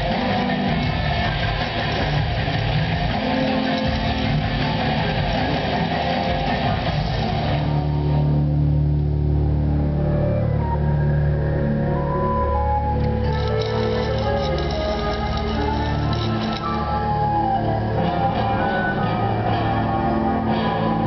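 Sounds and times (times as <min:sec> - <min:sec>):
stage show music: 0:00.0 - 0:21.0.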